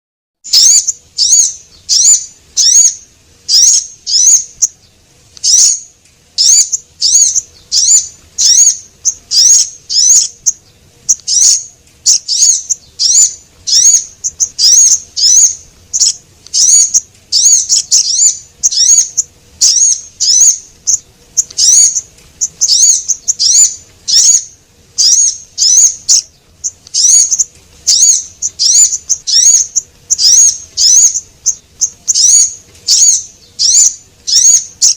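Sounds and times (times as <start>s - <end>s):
songbird chirps: 0.4s - 34.9s.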